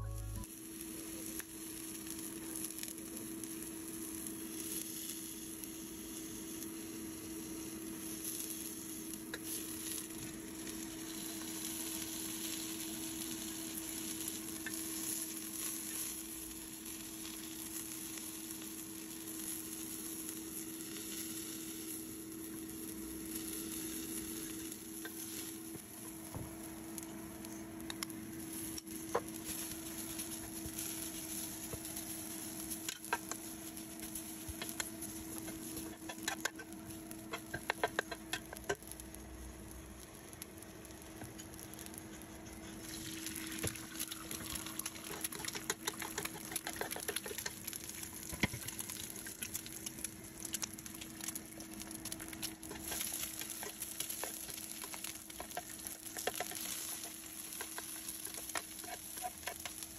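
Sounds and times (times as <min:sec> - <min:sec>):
low steady hum: 0:00.0 - 0:59.9
shrimp sizzling in oil: 0:00.0 - 0:59.9.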